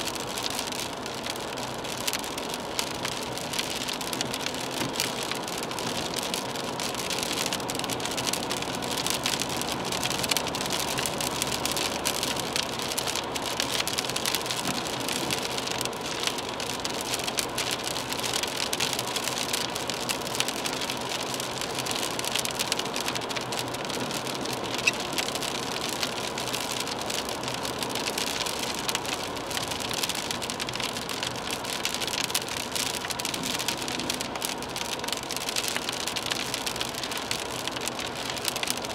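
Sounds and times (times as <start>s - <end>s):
faint car hum: 0.0s - 38.9s
rain ticking on car roof: 0.0s - 38.9s.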